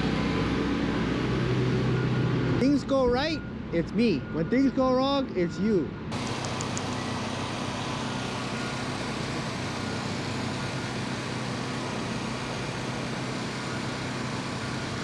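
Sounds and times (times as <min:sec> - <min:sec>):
engine humming with hiss: 0:00.0 - 0:03.3, 0:06.1 - 0:15.0.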